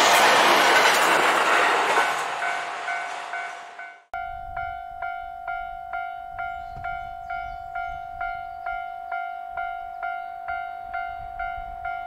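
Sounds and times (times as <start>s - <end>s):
level-crossing warning bell: 2.0s - 12.0s.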